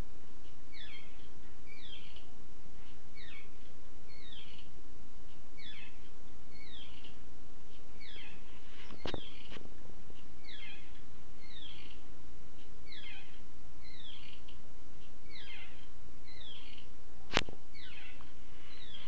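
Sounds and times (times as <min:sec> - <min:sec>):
steady low hum: 0:00.0 - 0:19.0
bird chirping: 0:00.4 - 0:17.0, 0:17.6 - 0:19.0.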